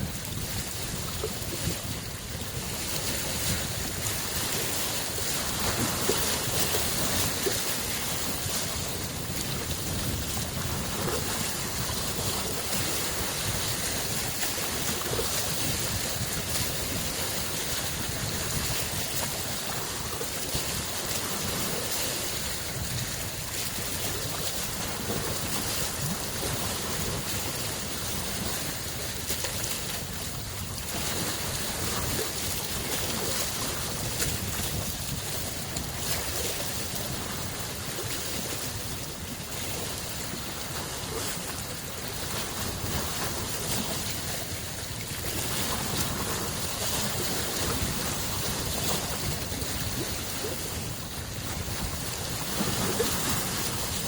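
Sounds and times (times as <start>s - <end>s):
lake waves lapping on shore: 0.0s - 54.0s
wind on microphone: 0.0s - 54.0s.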